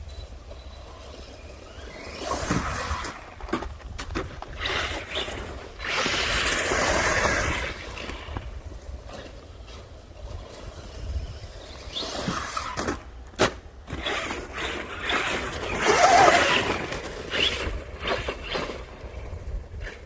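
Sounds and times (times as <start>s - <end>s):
toy truck motor whining: 0.1s - 20.0s.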